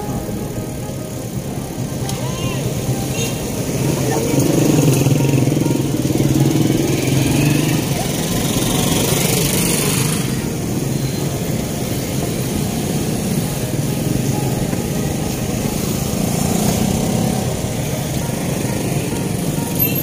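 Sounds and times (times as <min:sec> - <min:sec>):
small motorcycle engines: 0:00.0 - 0:20.0.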